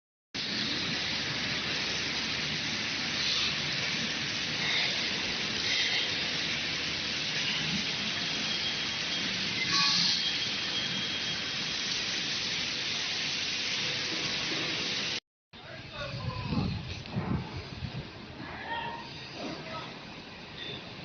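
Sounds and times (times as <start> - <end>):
steady hiss: 0.4 - 21.0.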